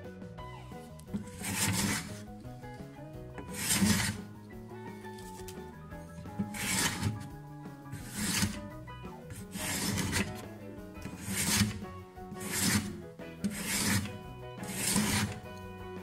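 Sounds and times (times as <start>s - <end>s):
hand plane shaving wood: 0.8s - 16.0s.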